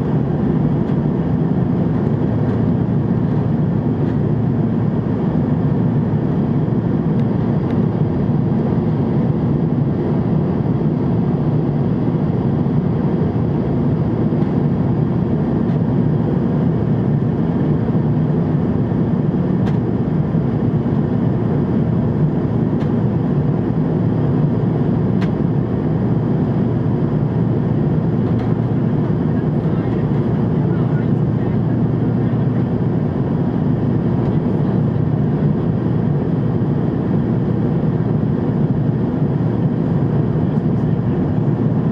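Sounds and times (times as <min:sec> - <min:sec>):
jet airliner cabin noise: 0:00.0 - 0:41.9.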